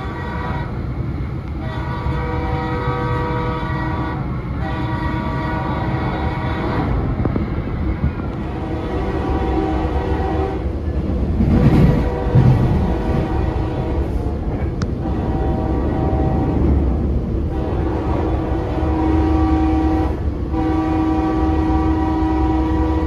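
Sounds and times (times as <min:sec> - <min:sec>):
train air horn blasts: 0:00.0 - 0:00.9, 0:01.5 - 0:07.2, 0:08.2 - 0:10.8, 0:11.5 - 0:23.0
moving train rumble: 0:00.0 - 0:23.0.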